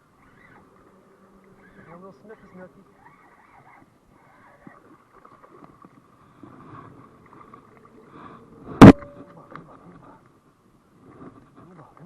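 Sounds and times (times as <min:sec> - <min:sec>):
rustling in a kayak: 0:00.0 - 0:12.0.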